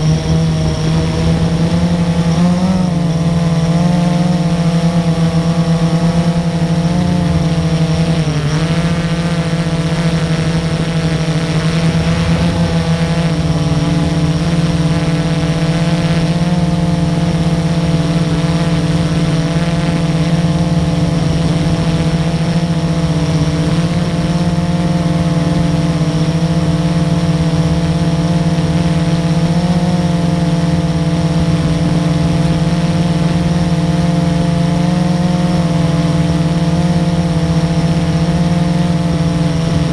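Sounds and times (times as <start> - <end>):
quadcopter propellers whirring: 0.0 - 39.9.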